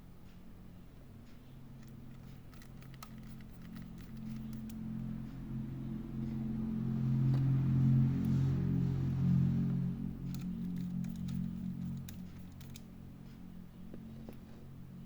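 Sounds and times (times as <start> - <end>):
low sustained background music: 0.0 - 15.0.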